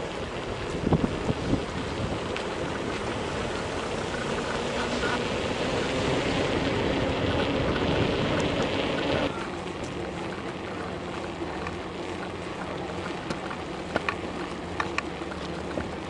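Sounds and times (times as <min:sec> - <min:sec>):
tyres rolling over paving stones: 0:00.0 - 0:16.0
wind buffeting microphone: 0:00.0 - 0:16.0.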